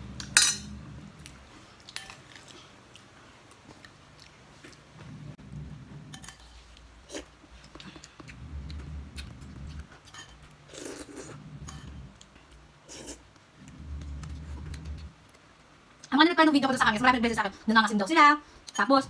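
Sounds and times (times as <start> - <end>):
chewing and eating: 0.2 - 16.1.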